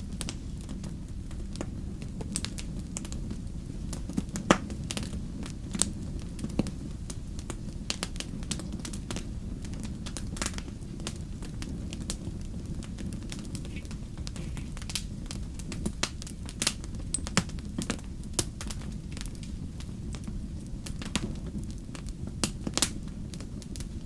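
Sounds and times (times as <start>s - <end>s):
fire crackling and popping: 0.0s - 24.0s
fire flames rumbling: 0.0s - 24.0s.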